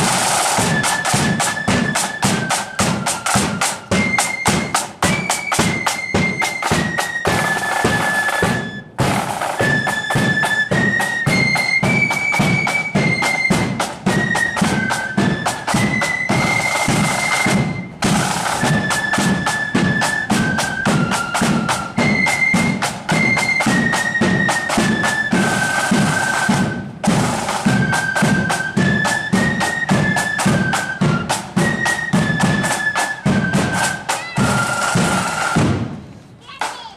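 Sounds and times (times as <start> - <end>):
flute melody: 0.0 - 36.0
fast snare drumming: 0.0 - 36.9.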